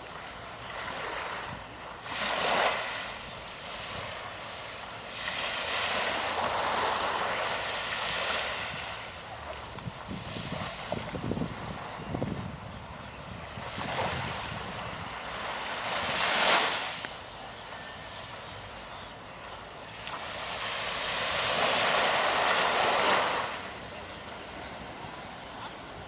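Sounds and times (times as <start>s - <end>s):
sea waves washing in: 0.0s - 26.0s.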